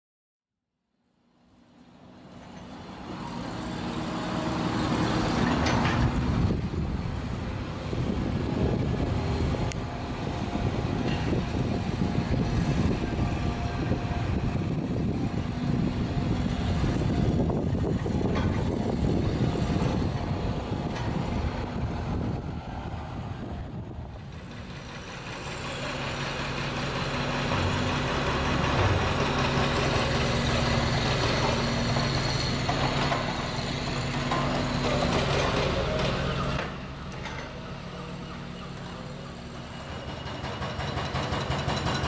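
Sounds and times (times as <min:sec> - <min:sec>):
excavator engines humming: 0:01.0 - 0:42.0.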